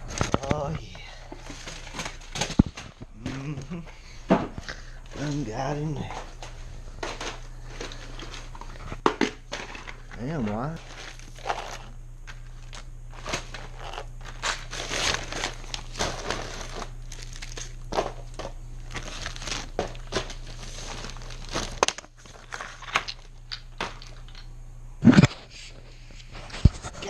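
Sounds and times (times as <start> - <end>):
bags and papers rustling: 0.0 - 23.3
low background hum: 0.0 - 27.0.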